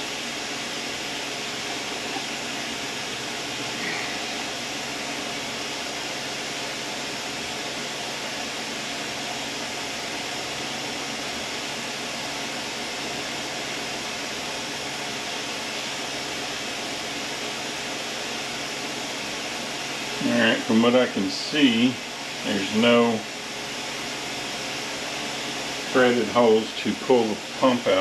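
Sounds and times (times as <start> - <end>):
fan rushing noise: 0.0 - 28.0.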